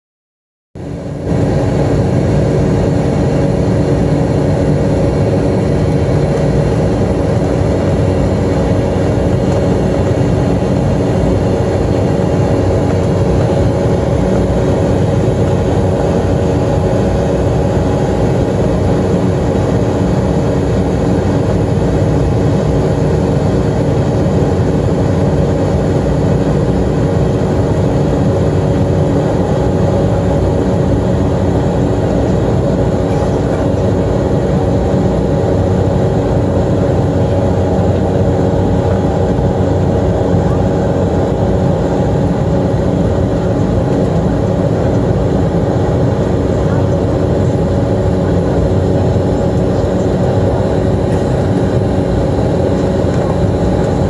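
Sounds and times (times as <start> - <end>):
jet engine cabin roar: 0.8 - 54.0.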